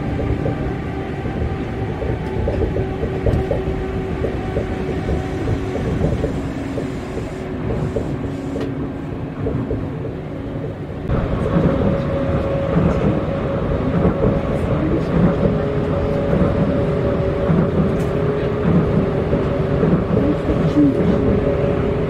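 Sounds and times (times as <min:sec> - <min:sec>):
monorail tyres rumbling: 0:00.0 - 0:22.0.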